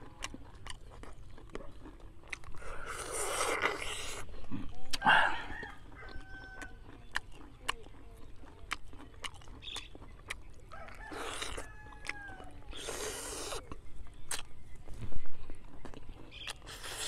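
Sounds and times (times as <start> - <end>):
person chewing and smacking lips: 0.0 - 17.0.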